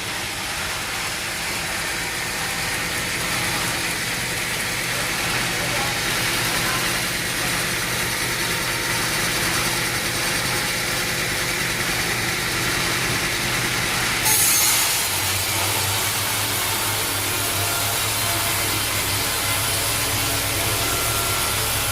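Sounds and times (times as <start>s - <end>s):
sawmill engine running: 0.0s - 21.9s.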